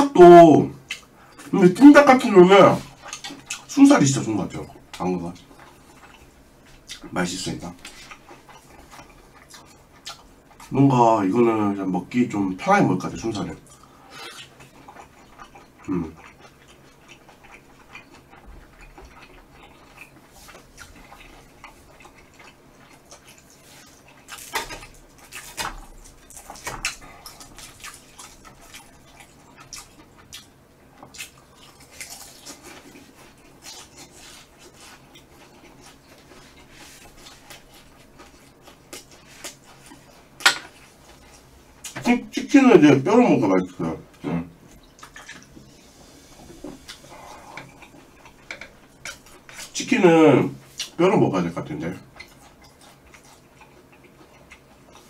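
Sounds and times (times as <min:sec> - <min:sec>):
quiet chewing: 0:00.8 - 0:01.8, 0:02.7 - 0:11.0, 0:13.1 - 0:42.6, 0:43.6 - 0:51.0, 0:51.6 - 0:55.0.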